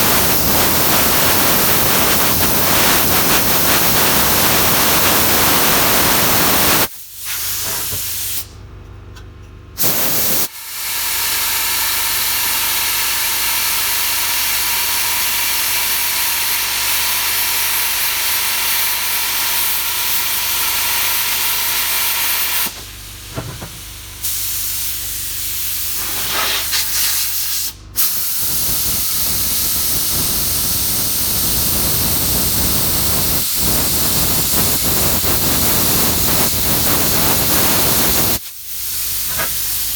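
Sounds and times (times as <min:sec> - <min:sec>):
plasma cutter hissing: 0:00.0 - 0:08.5, 0:09.8 - 0:23.1, 0:24.2 - 0:39.9.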